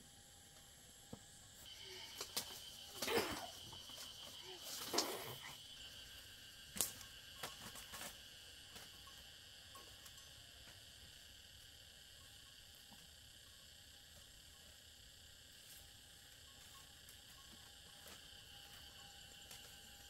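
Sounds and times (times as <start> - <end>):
high insect buzz: 0.0 - 20.0.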